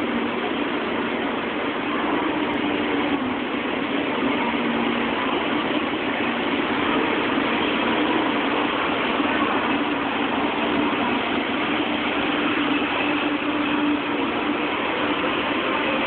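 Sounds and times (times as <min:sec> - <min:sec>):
train motors and wheels running: 0:00.0 - 0:16.0.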